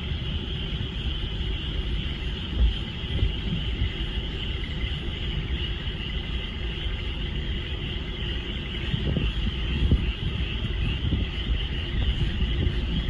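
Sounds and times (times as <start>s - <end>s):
chorus of frogs trilling: 0.0s - 13.0s.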